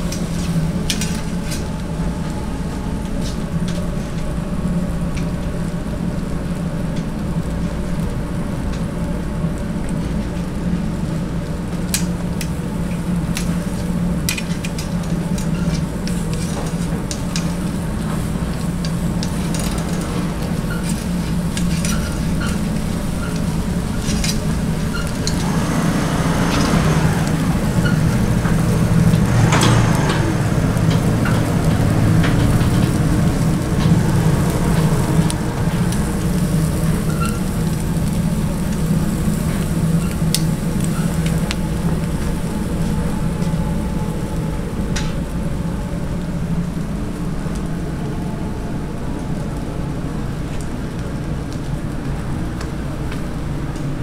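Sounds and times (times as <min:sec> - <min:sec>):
small crackles and clicks: 0:00.0 - 0:48.1, 0:49.1 - 0:54.0
fish sizzling on grill: 0:00.0 - 0:54.0
steady low hum: 0:00.0 - 0:54.0.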